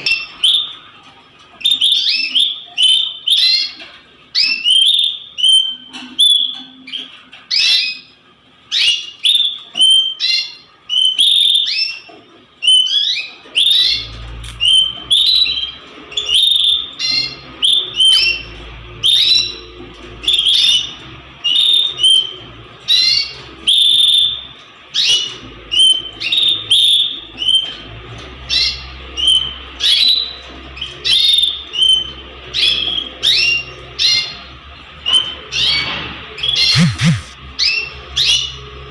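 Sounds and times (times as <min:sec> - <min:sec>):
canaries chirping: 0:00.0 - 0:38.9.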